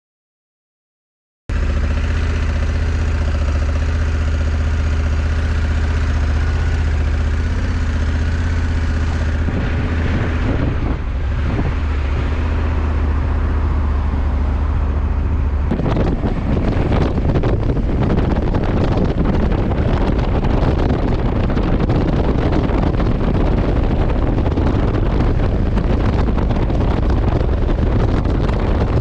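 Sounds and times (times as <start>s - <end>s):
motorcycle engine running: 1.5s - 29.0s
wind buffeting microphone: 1.8s - 29.0s.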